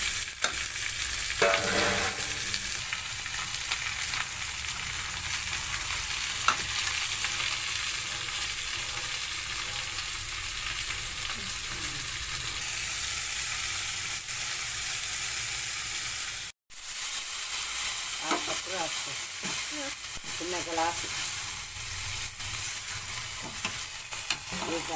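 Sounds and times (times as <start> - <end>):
vegetables sizzling in a pan: 0.0 - 24.9.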